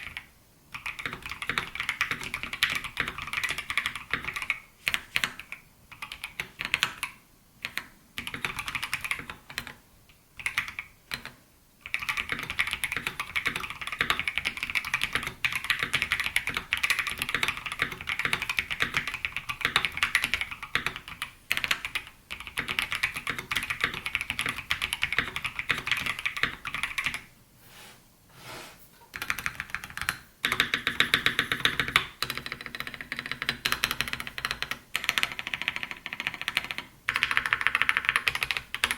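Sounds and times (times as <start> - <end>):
mechanical keyboard typing: 0.0 - 9.8, 10.4 - 27.2, 29.1 - 38.9.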